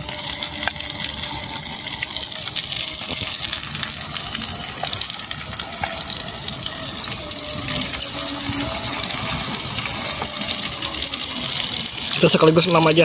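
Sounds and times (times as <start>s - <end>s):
deep-frying sizzle and crackles: 0.0s - 13.0s.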